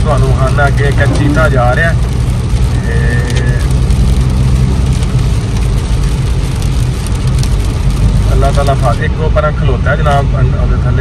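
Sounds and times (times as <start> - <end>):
car road and engine rumble: 0.0 - 11.0
rain hitting windshield: 0.0 - 11.0.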